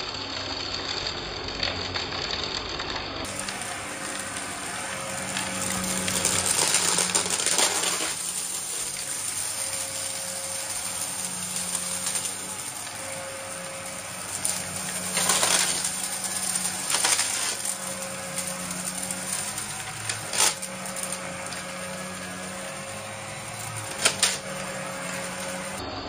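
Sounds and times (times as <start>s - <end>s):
debris crackling in vacuum: 0.0s - 26.0s
vacuum cleaner running: 3.2s - 26.0s.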